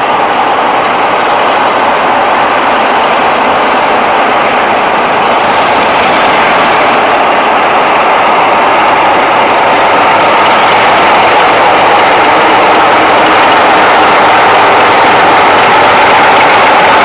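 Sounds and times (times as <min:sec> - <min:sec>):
locomotive engine running: 0:00.0 - 0:17.0.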